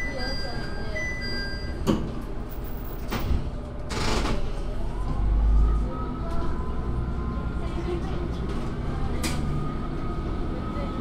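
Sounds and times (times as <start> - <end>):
diesel railcar rumble: 0.0 - 11.0.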